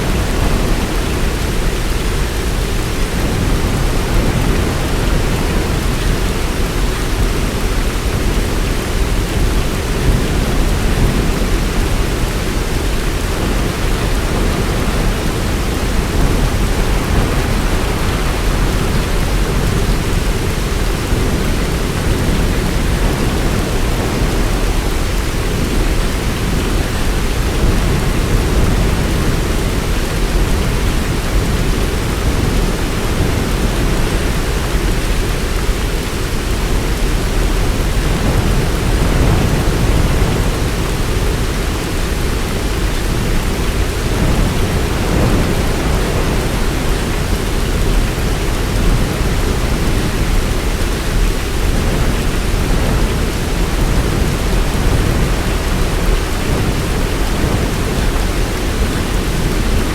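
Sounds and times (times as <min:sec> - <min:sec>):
heavy rain hiss: 0:00.0 - 0:59.9.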